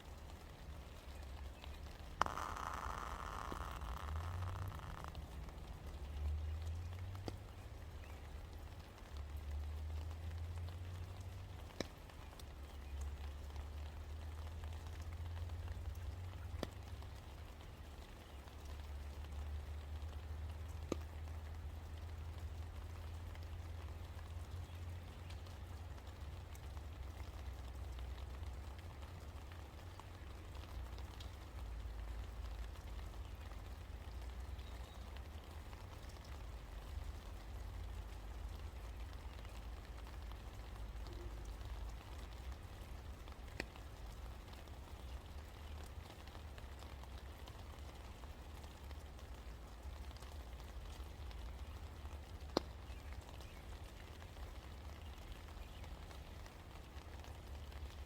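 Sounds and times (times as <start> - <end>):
low steady rumble: 0.0 - 58.0
rain drops ticking: 0.0 - 58.0
sharp water drip: 0.0 - 58.0.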